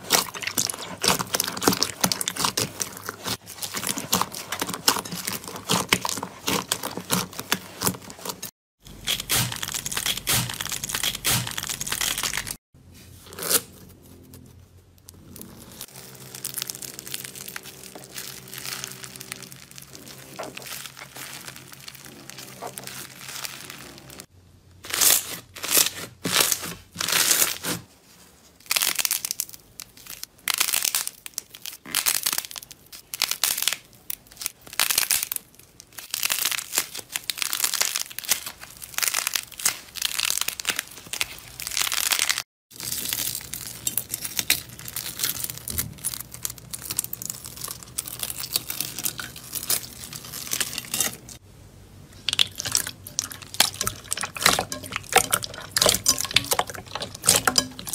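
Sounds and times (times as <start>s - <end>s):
slime crackling and popping: 0.0s - 12.6s, 15.0s - 24.3s, 28.6s - 51.4s, 52.2s - 57.9s.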